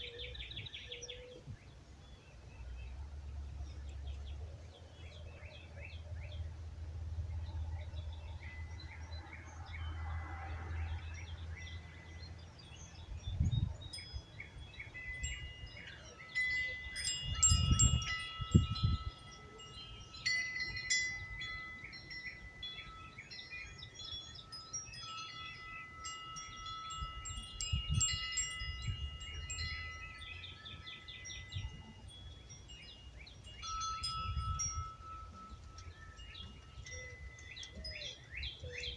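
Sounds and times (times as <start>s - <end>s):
wind rumbling on microphone: 6.0s - 19.9s, 20.7s - 38.9s
wind chimes ringing: 7.4s - 38.9s.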